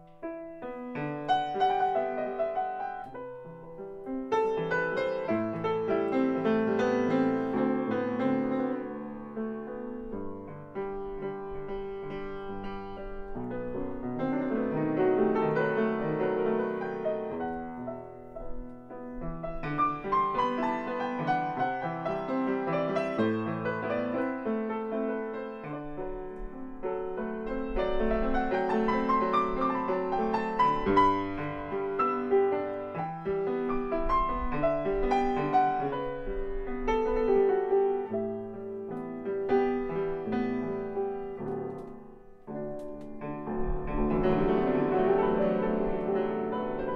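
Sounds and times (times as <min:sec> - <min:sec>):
grand piano playing: 0:00.0 - 0:46.9.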